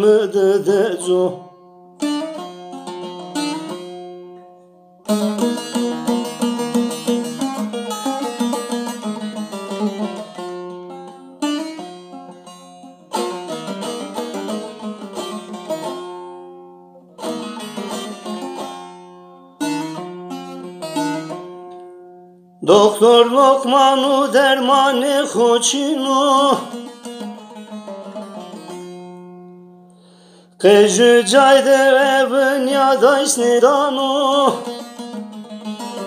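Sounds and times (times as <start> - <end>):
plucked string instrument: 0.0 - 36.0.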